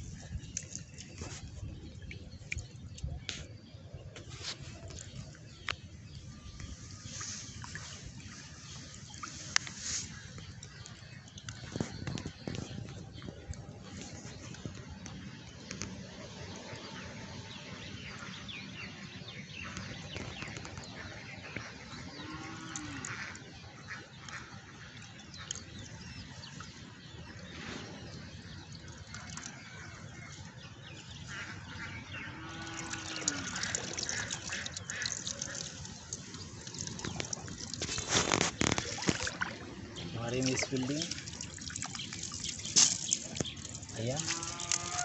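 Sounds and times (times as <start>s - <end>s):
water sloshing and dripping: 0.1s - 3.5s, 4.2s - 16.9s, 22.7s - 31.8s, 32.4s - 45.0s.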